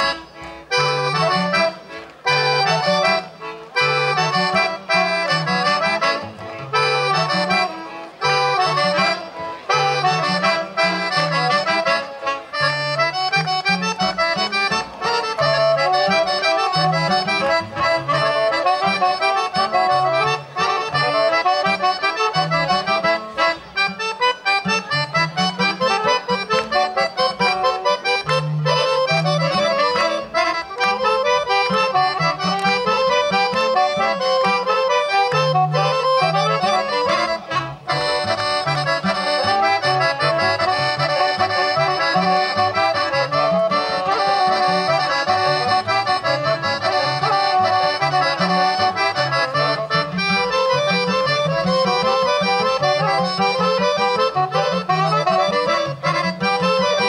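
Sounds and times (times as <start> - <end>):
accordion folk dance tune: 0.0 - 57.0.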